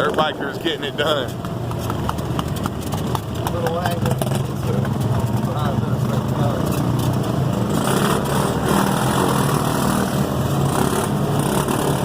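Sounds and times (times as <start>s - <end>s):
off-road vehicle engines humming: 0.0s - 12.0s.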